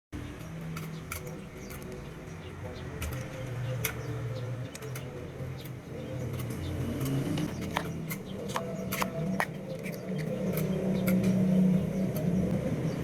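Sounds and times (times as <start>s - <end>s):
motor humming: 0.2s - 13.0s
sharp clicks: 0.4s - 12.6s.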